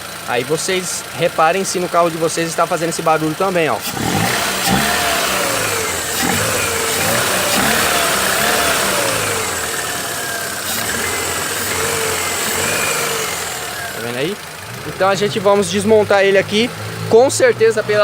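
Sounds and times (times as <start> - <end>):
car engine knocking: 0.0 - 18.0.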